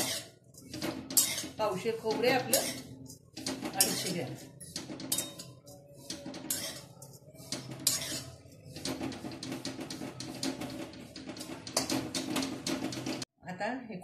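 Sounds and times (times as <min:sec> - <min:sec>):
metal spatula scraping a pan: 0:00.0 - 0:13.3.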